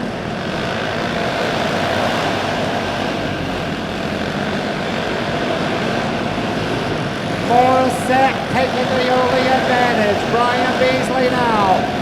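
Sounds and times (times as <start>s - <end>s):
kart engines droning: 0.0s - 12.0s.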